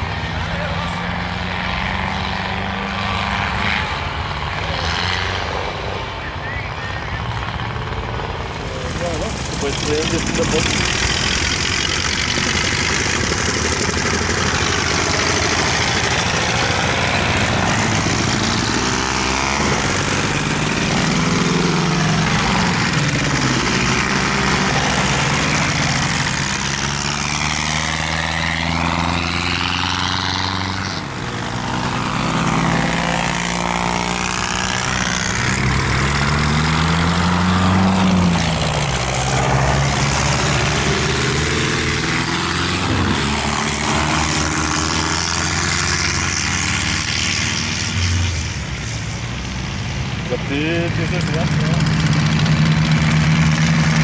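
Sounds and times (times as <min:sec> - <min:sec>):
tractor diesel engines racing: 0:00.0 - 0:54.0.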